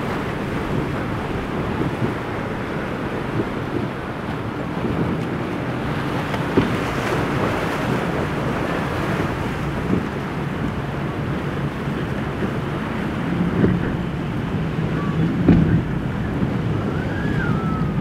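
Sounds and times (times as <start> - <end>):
hull slapping waves: 0.0 - 18.0
motorboat engines at speed: 0.0 - 18.0
rush of spray and waves: 0.0 - 18.0
wave splashing over boat: 0.0 - 18.0
wind buffeting microphone: 0.0 - 18.0.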